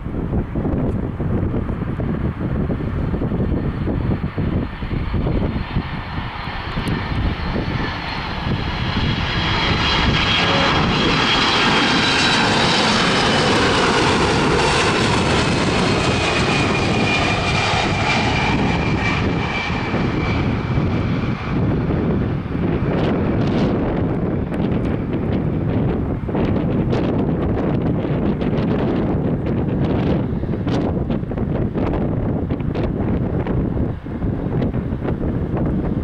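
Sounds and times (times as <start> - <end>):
jet engine rush overhead: 0.0 - 36.0
wind buffeting microphone: 0.0 - 36.0
high engine whine: 0.1 - 36.0.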